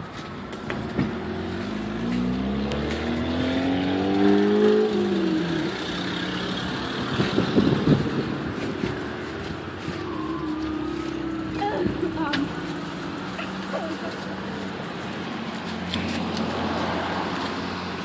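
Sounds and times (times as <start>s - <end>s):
scuffing and crackling: 0.0s - 18.0s
vehicle driving past: 0.7s - 18.0s.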